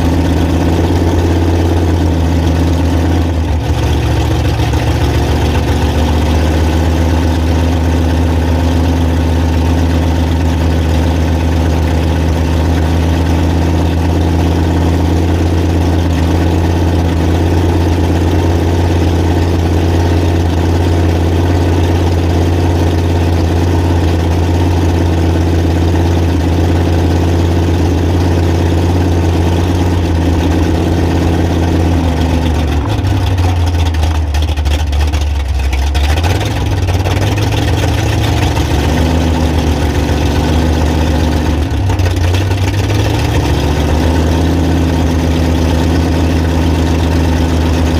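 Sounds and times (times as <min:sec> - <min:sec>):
truck engine running at low revs: 0:00.0 - 0:47.9.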